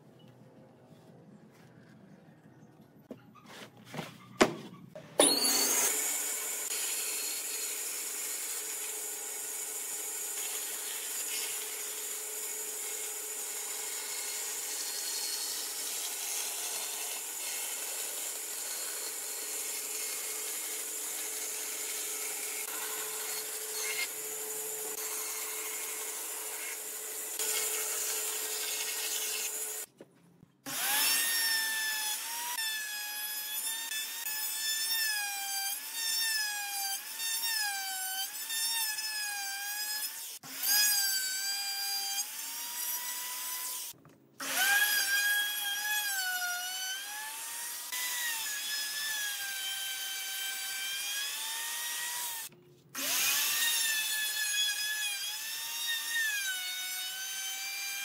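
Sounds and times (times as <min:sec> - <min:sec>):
power tool working wood: 0:05.2 - 0:29.9, 0:30.7 - 0:58.0.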